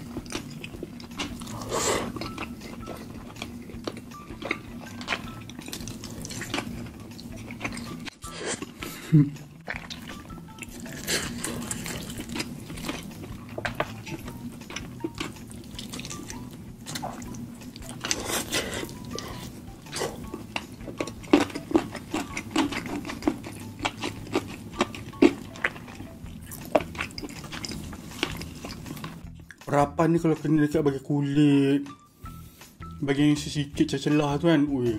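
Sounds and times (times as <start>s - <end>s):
chewing and tearing food: 0.0s - 29.6s.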